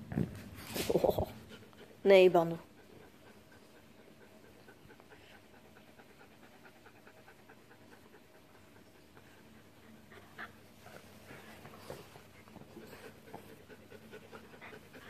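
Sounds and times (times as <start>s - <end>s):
dog panting: 0.8s - 15.0s.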